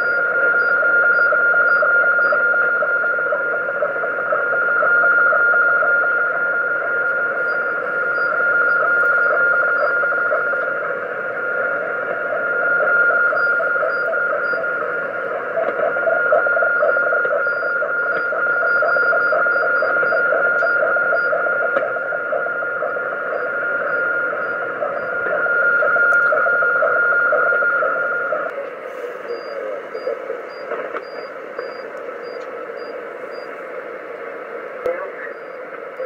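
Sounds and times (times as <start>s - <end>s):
fast buzzing rhythmic signal: 0.0s - 36.0s
radio crackle: 0.0s - 36.0s
radio hiss: 0.0s - 36.0s
steady radio whistle: 0.0s - 36.0s.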